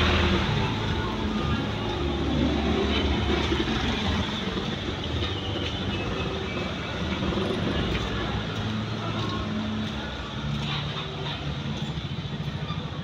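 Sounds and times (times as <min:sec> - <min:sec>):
moving vehicle rumbling: 0:00.0 - 0:13.0.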